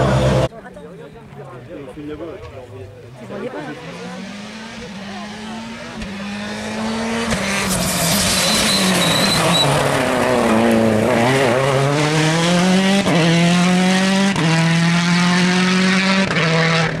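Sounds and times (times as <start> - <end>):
rally car engine accelerating: 3.2 - 17.0.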